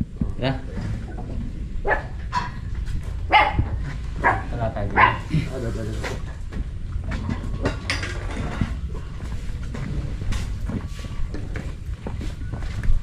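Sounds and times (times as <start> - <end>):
low microphone rumble: 0.0 - 13.0.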